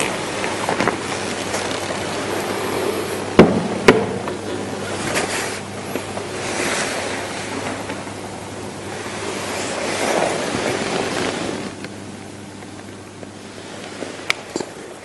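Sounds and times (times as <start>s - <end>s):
waves washing on shore: 0.0s - 15.0s.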